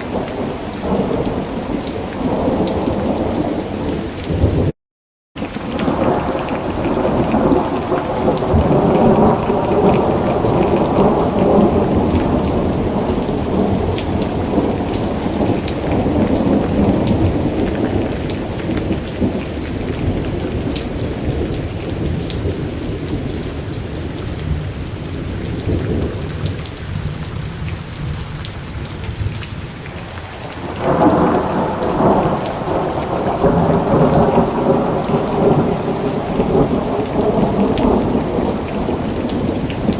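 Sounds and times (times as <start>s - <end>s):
steady rain: 0.0s - 4.8s, 5.4s - 39.9s
thunder rumbling: 5.8s - 39.9s.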